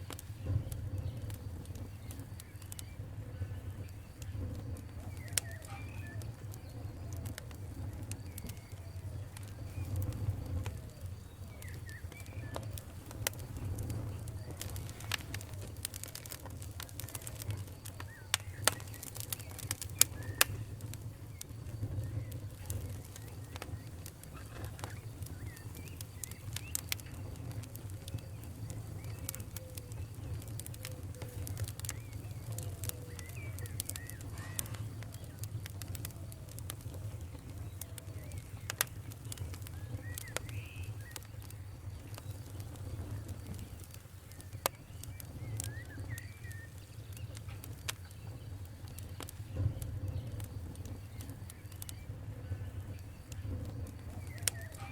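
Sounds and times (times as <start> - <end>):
faint squeaky whistles: 0.0 - 54.9
fire popping: 0.0 - 54.9
wood fire crackling: 0.0 - 54.9.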